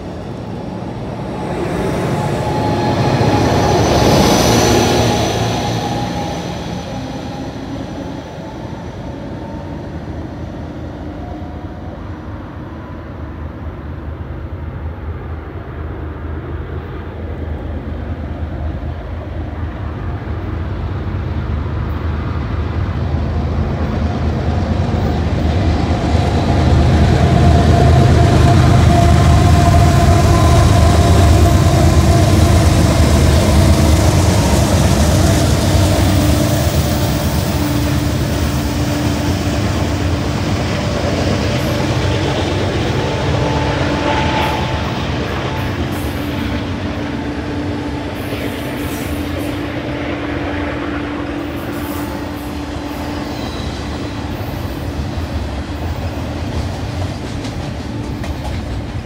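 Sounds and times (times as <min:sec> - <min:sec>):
diesel locomotive engine rumble: 0:00.0 - 0:59.0
passenger train rolling past: 0:00.0 - 0:59.0.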